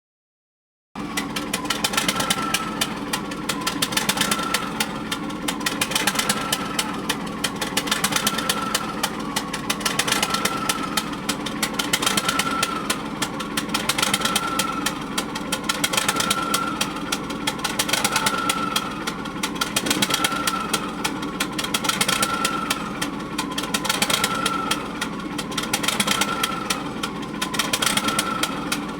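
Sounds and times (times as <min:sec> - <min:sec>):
engine running with even clatter: 0:01.0 - 0:28.9
engine whine: 0:01.0 - 0:28.9.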